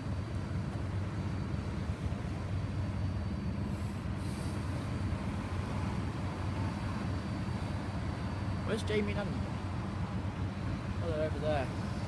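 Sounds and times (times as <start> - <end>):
vehicle low hum: 0.0 - 12.0.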